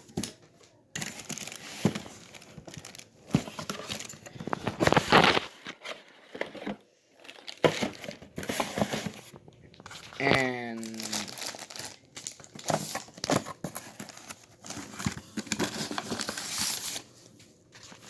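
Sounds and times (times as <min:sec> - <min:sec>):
packaging crinkling and rustling: 0:00.1 - 0:18.0.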